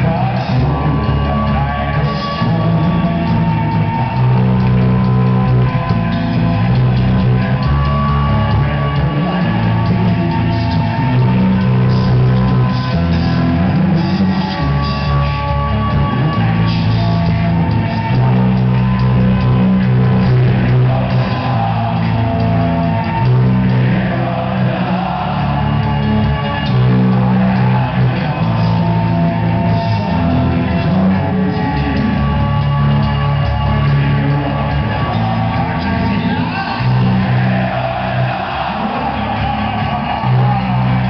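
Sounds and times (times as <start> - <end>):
loud music with strong bass: 0.0 - 41.0.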